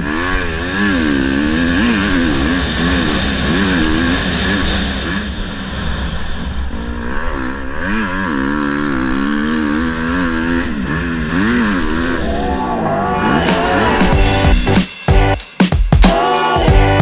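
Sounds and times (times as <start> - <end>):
dirt bike engine revving: 0.0 - 15.4.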